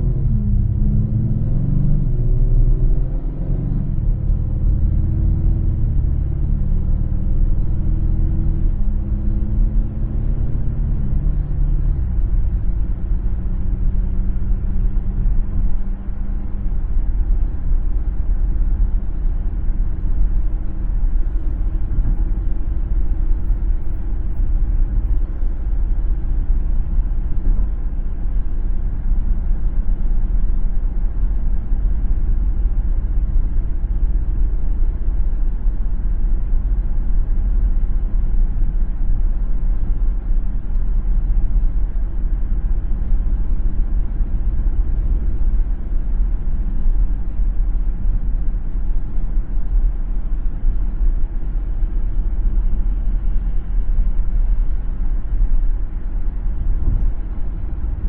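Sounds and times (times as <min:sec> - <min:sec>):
car engine and tyre rumble: 0:00.0 - 0:58.0
engine hum stepping down: 0:00.0 - 0:58.0.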